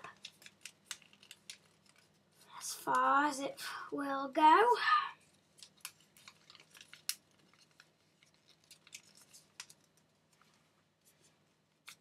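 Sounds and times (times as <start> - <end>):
paper crackling and rustling: 0.0 - 3.1, 5.2 - 12.0.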